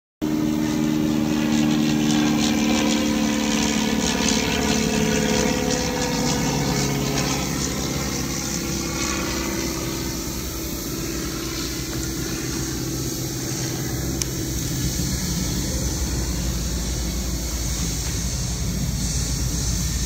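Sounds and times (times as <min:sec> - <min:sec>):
diesel locomotive engine rumble: 0:00.2 - 0:20.0.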